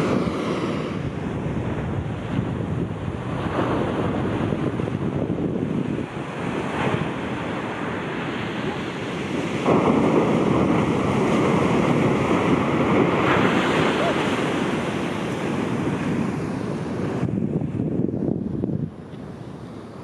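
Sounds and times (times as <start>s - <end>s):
waves crashing onto sand: 0.0s - 20.0s
wind on microphone: 0.0s - 20.0s.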